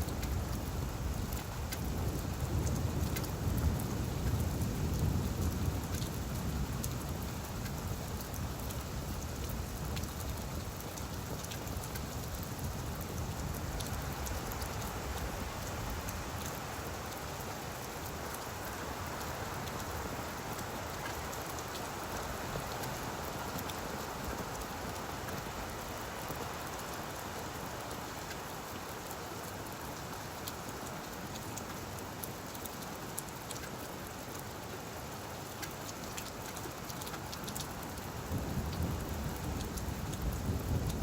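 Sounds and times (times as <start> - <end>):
rain falling on leaves: 0.0 - 41.0.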